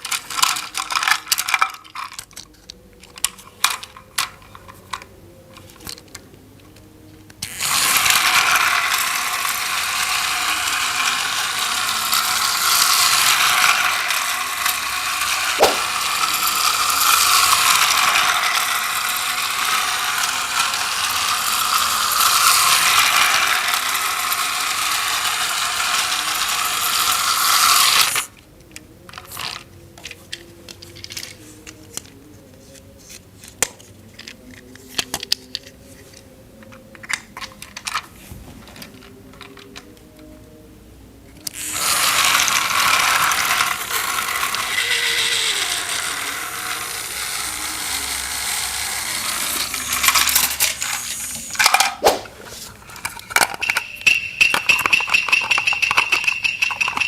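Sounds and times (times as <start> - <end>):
toy train motor grinding whir: 0.0 - 6.2, 7.4 - 28.3, 29.1 - 32.2, 41.4 - 57.0.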